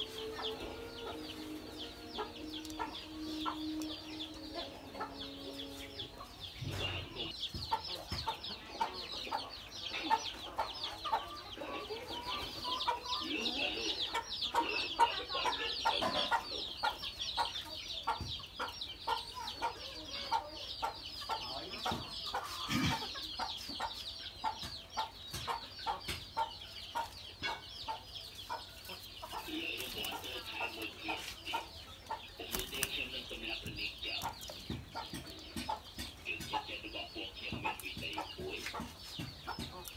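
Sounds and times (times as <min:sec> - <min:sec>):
birds chirping: 0:00.0 - 0:39.9
poultry clucking: 0:00.0 - 0:39.9.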